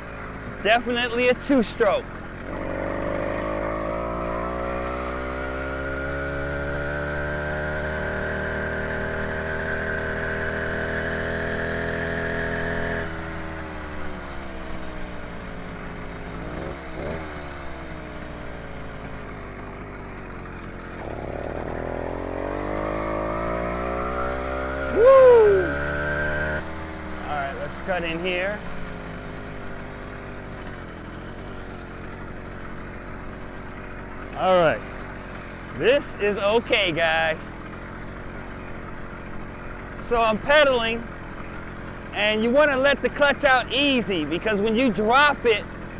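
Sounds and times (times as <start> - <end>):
two-stroke engine revving: 0.0 - 45.9.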